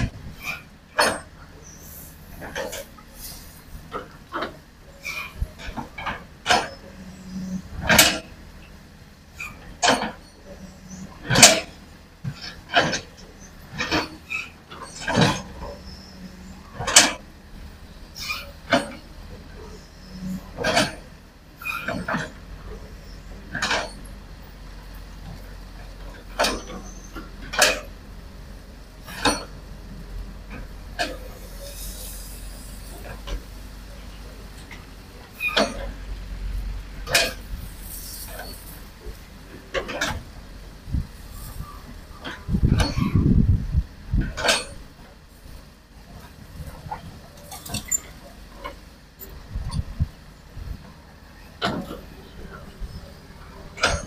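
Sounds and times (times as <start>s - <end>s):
excavator bucket clanking: 0.0s - 54.0s
excavator diesel engine droning: 0.0s - 54.0s.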